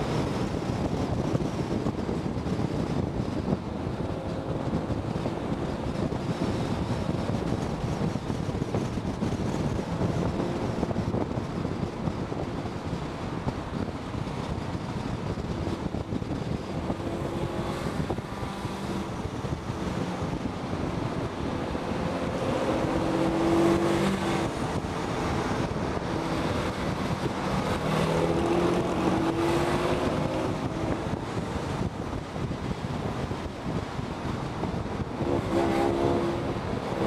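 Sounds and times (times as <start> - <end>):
car engine accelerating: 0.0 - 37.0
wind rush on microphone: 0.0 - 37.0.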